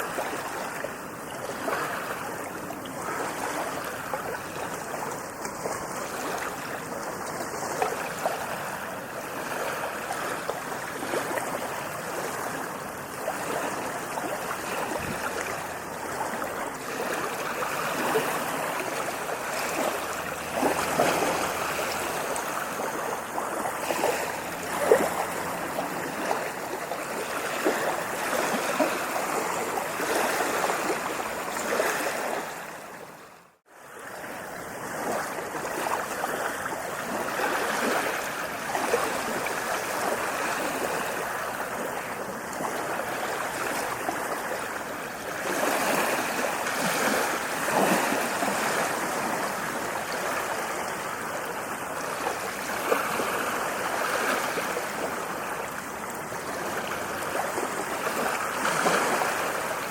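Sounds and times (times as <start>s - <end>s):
ocean waves washing onto beach: 0.0s - 59.9s.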